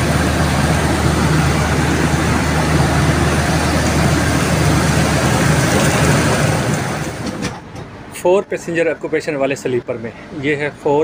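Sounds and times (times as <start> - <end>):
generator engine hum: 0.0 - 11.0.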